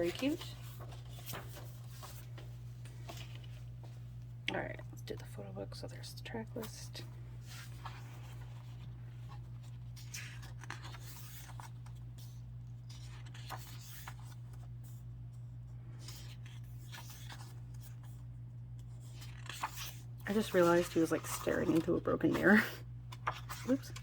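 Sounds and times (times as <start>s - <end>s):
paper rustling: 0.0s - 4.0s, 7.4s - 24.0s
book pages turning: 0.0s - 4.3s, 7.4s - 24.0s
steady low hum: 0.0s - 24.0s.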